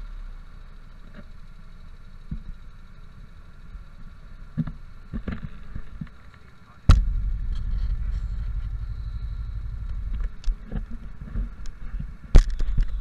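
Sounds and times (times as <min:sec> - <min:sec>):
go-kart engine running: 0:00.0 - 0:13.0.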